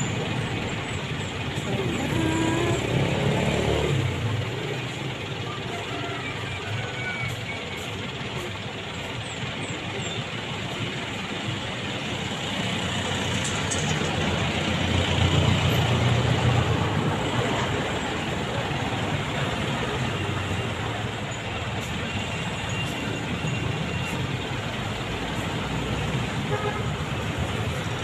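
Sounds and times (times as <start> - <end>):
heavy vehicle engine rumble: 0.0 - 28.0
road traffic passing: 0.0 - 28.0.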